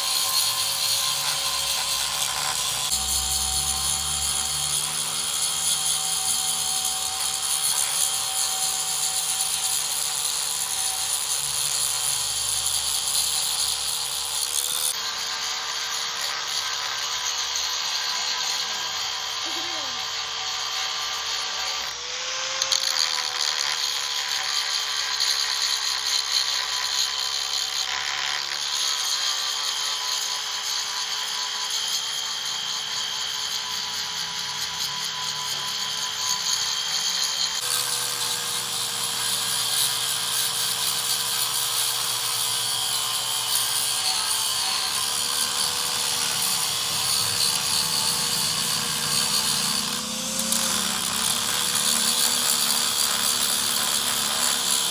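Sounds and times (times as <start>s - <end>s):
power tool grinding metal: 0.0s - 54.9s.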